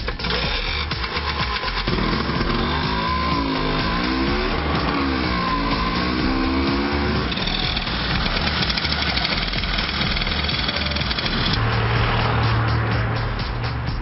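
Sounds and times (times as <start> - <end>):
scooter engine revving: 0.0 - 12.2
music with low beat: 0.0 - 14.0.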